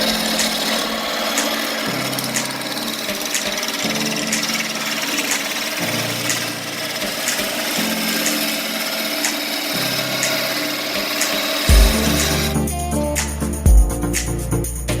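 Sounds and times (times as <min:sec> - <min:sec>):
tool scraping spinning wood: 0:00.0 - 0:12.7
wood lathe running: 0:00.0 - 0:12.9
background music: 0:00.0 - 0:15.0.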